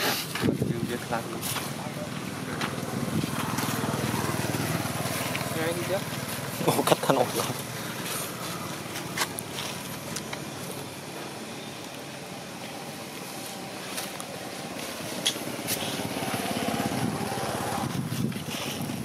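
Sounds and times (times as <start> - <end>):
vehicle engine running: 1.0 - 19.0.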